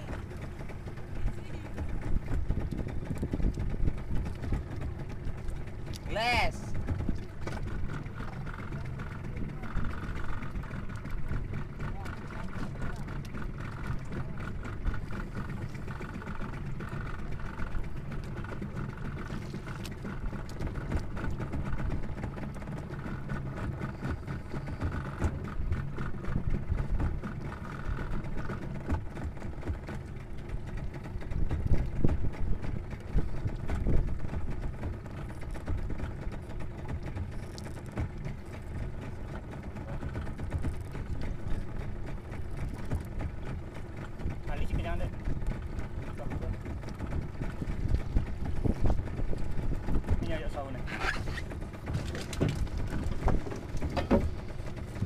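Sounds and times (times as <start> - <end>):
boat engine idling: 0.0 - 55.0.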